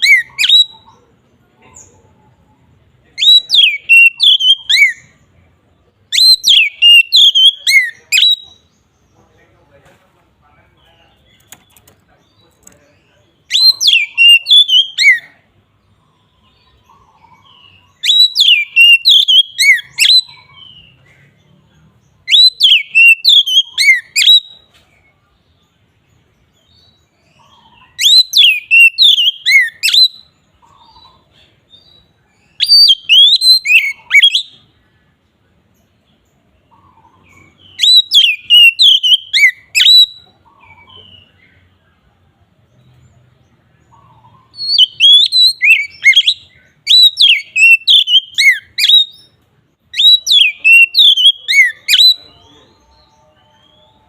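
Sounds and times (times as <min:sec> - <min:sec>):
magpie-robin singing: 0:00.0 - 0:09.5, 0:10.7 - 0:42.0, 0:42.6 - 0:54.0.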